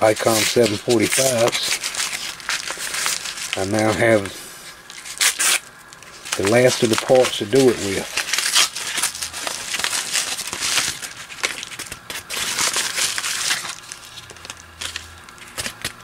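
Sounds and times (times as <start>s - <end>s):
paper mailer crinkling: 0.0s - 16.0s.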